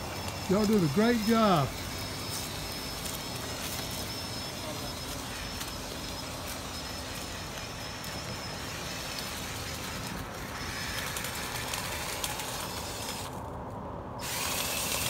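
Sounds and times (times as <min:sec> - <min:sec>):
leaf blower air rushing: 0:00.0 - 0:13.5, 0:14.2 - 0:15.0
faint high motor whine: 0:00.0 - 0:15.0.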